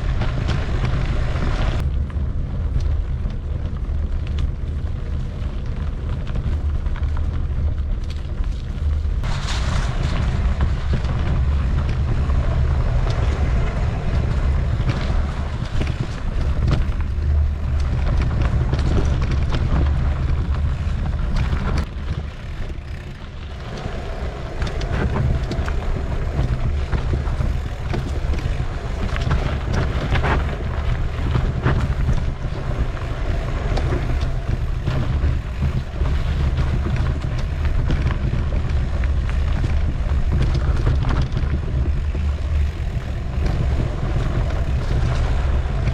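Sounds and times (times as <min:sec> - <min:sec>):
bike clicking and rattling: 0:00.0 - 0:45.9
wind buffeting microphone: 0:00.0 - 0:45.9.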